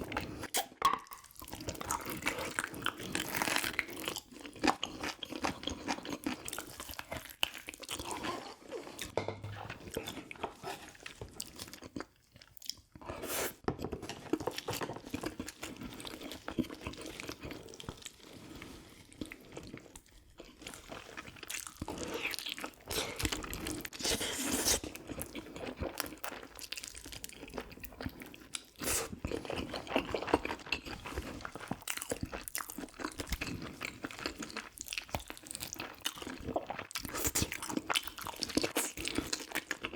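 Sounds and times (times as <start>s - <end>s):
wet crunchy chewing and smacking: 0.0s - 18.4s, 19.1s - 39.9s.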